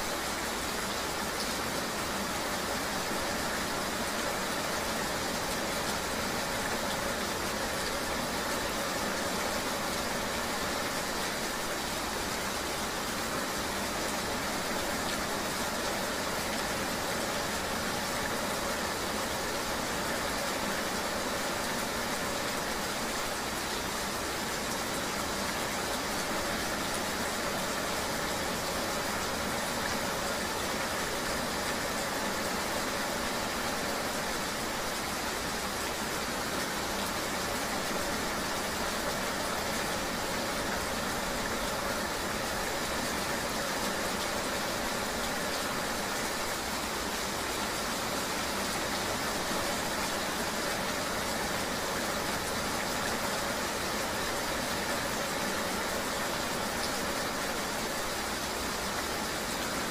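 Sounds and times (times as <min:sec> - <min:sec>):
road and rain hiss: 0:00.0 - 0:59.9.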